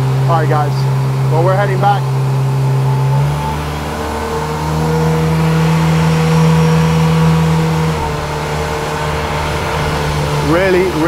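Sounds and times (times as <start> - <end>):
powerboat engine running: 0.0 - 11.0.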